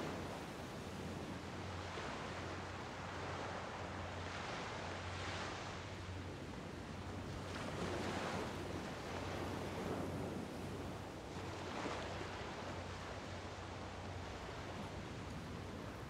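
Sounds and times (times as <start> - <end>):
small waves washing ashore: 0.0 - 16.0.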